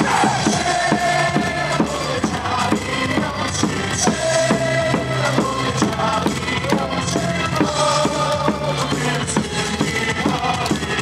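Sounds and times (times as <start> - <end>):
electronic pop music over loudspeakers: 0.0 - 11.0.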